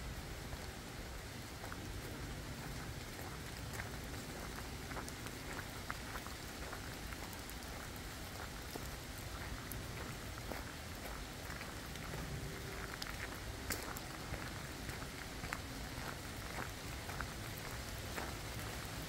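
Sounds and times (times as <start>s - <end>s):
raindrops ticking close by: 0.0s - 19.0s
steady rain in forest: 0.0s - 19.0s.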